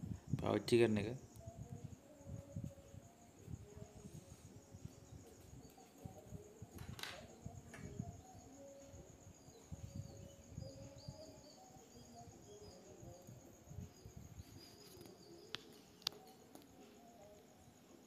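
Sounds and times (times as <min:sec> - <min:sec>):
low room noise: 0:00.0 - 0:18.0
faint birdsong chirps: 0:00.2 - 0:18.0.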